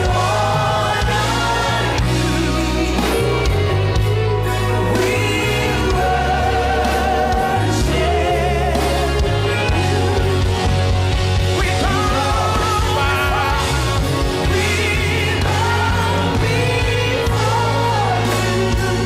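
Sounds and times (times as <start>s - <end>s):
band with heavy bass: 0.0s - 19.0s
gospel singers with vibrato: 0.0s - 19.0s.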